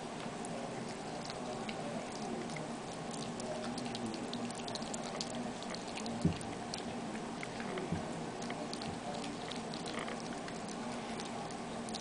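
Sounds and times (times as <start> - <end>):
puppy chewing broccoli: 0.0 - 12.0.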